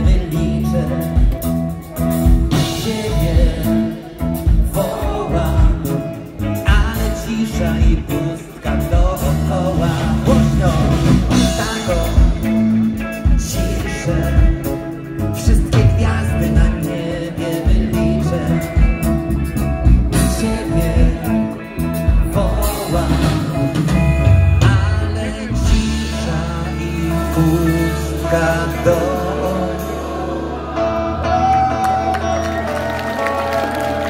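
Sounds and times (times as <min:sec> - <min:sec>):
live rock band playing: 0:00.0 - 0:34.0
person singing: 0:00.0 - 0:34.0.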